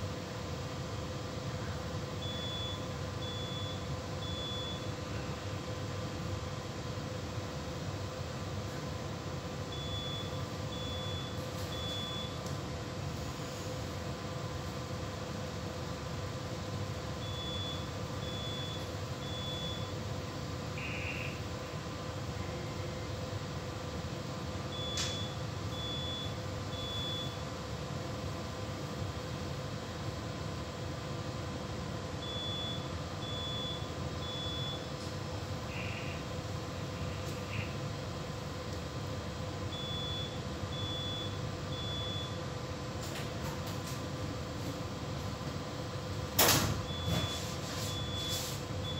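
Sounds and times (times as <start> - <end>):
low machinery hum: 0.0 - 48.9.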